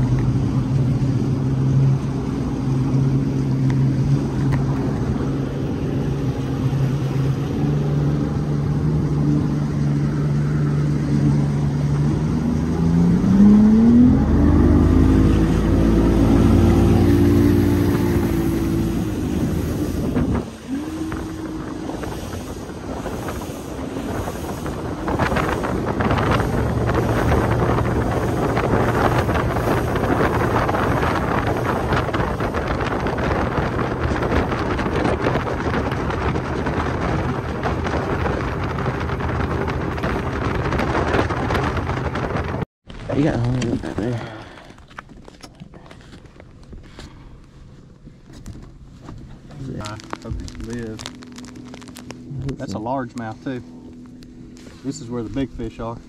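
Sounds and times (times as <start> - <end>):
wind buffeting microphone: 0.0 - 45.4, 46.0 - 56.0
outboard motor running: 0.0 - 56.0.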